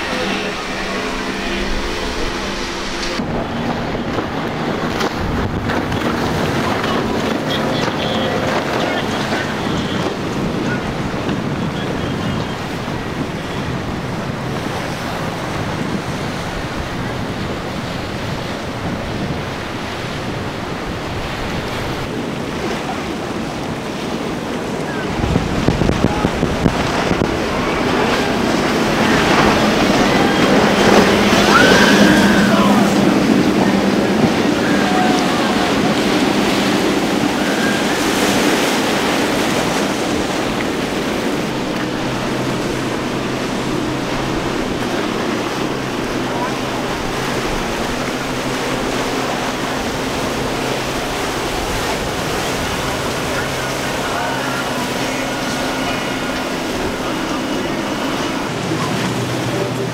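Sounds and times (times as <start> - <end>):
boat motors running: 0.0 - 59.9
waves washing: 0.0 - 59.9
wind on microphone: 0.0 - 59.9.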